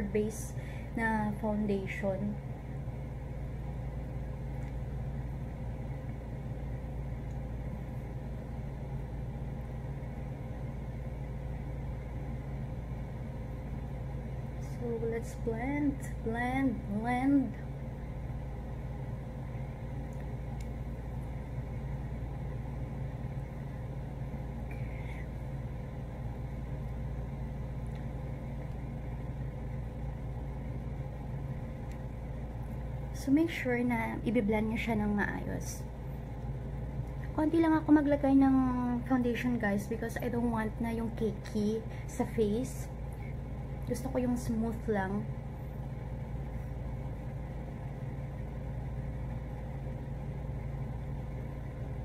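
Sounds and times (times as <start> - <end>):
air conditioner humming: 0.0 - 52.0
faint whine: 0.0 - 52.0.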